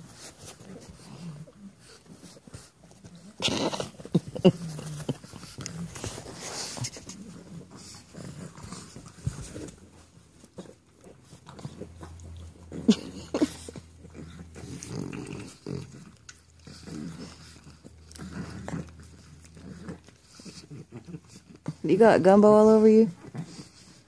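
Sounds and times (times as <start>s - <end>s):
puppies making play noises: 0.0s - 24.0s.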